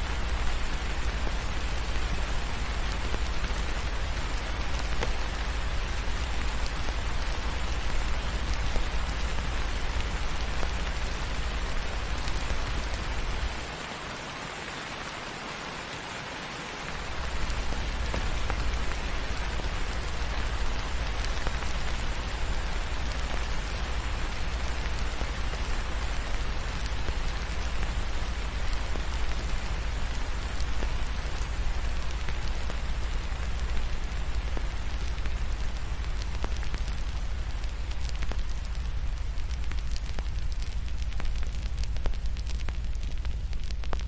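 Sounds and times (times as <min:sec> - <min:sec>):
rain falling on a surface: 0:00.0 - 0:44.0.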